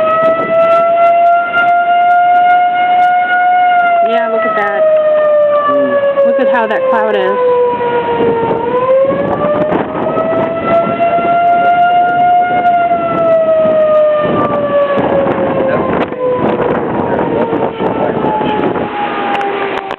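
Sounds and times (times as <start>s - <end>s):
warning siren tone: 0.0s - 19.9s
wind buffeting microphone: 0.0s - 19.9s.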